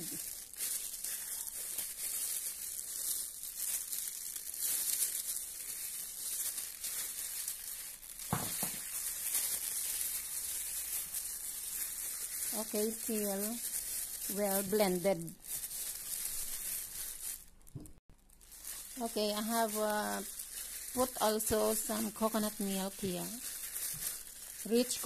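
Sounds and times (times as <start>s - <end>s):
plastic gloves crinkling: 0.0s - 25.0s
moist mixture squishing: 0.1s - 17.3s, 18.4s - 25.0s.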